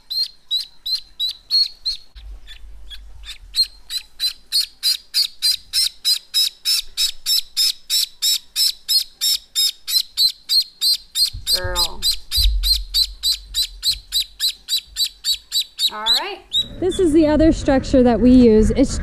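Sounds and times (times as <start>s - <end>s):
duckling peeping: 0.0s - 17.2s.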